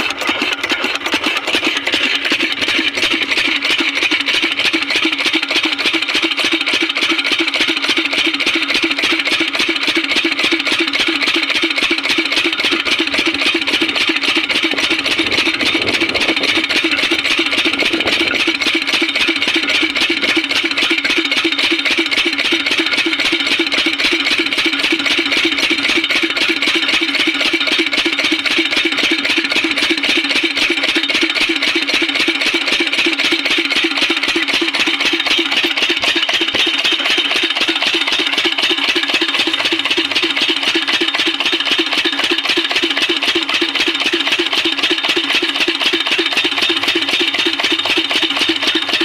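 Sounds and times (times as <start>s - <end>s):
water pump diesel engine running: 0.0s - 49.0s.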